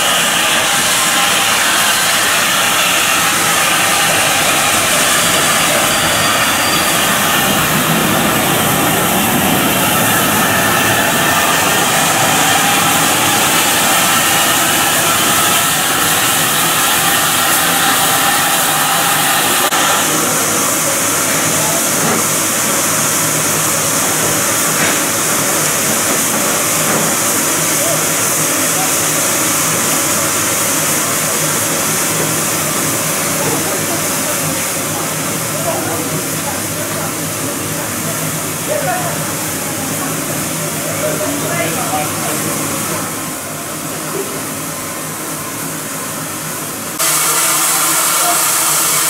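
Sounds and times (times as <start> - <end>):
steam hissing from locomotive: 0.0 - 49.0.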